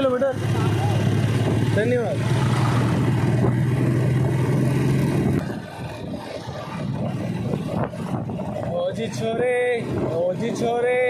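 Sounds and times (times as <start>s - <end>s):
motorcycle engine humming: 0.0s - 11.0s
road noise: 0.0s - 11.0s.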